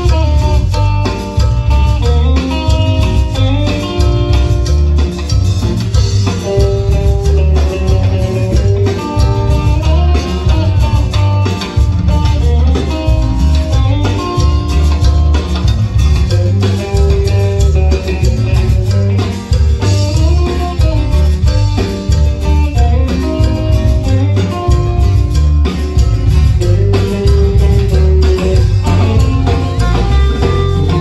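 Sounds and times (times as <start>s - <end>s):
live band playing dance music: 0.0s - 31.0s.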